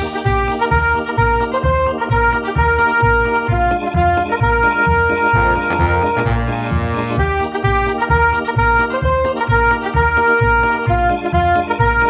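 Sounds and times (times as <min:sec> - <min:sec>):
instrumental music with bass beat: 0:00.0 - 0:12.0.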